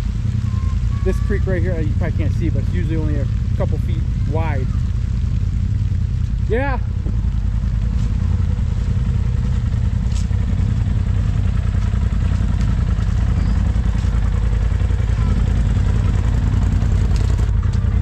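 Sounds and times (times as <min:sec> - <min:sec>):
off-road vehicle engine rumbling: 0:00.0 - 0:18.0.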